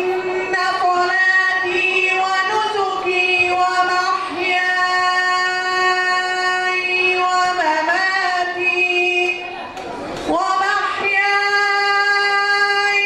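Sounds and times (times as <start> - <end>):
boy reciting melodically: 0.0 - 9.7, 10.3 - 13.0.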